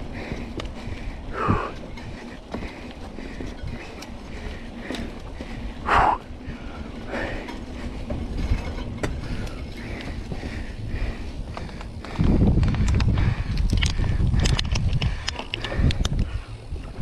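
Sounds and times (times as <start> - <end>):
bike frame and chain rattling: 0.0 - 17.0
bike tyres rumbling on dirt: 0.0 - 17.0.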